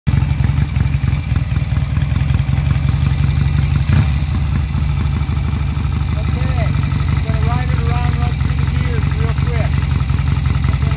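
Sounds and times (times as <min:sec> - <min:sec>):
motorcycle engine idling: 0:00.1 - 0:10.9.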